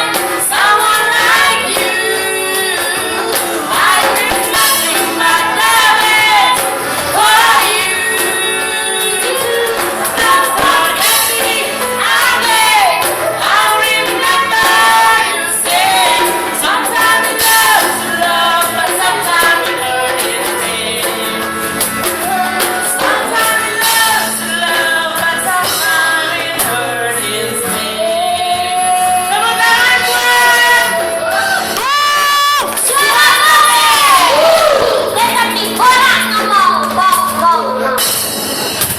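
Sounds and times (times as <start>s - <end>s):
singers performing over music: 0.0s - 38.9s.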